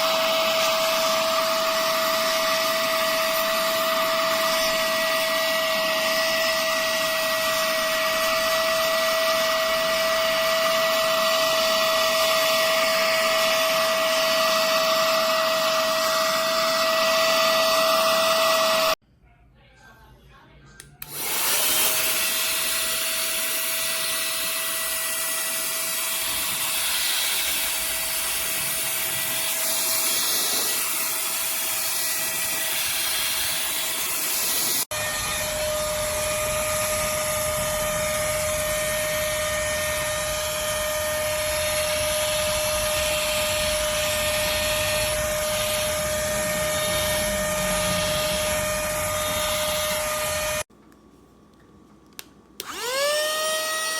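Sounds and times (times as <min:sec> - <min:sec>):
small vacuum motor whining: 0:00.0 - 0:19.0, 0:21.0 - 0:50.7, 0:52.6 - 0:53.9.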